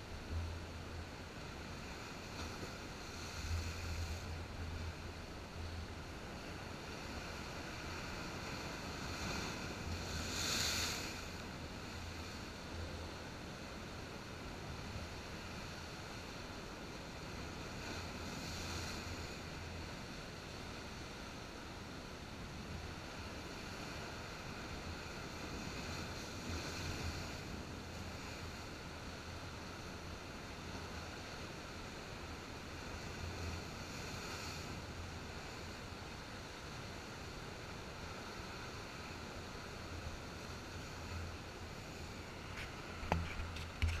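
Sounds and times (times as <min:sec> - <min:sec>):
surf washing over rocks: 0:00.0 - 0:44.0.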